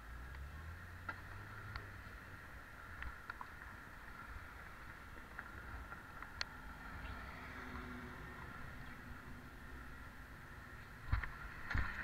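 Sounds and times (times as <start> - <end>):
pedicab rolling noise: 1.1 - 12.0.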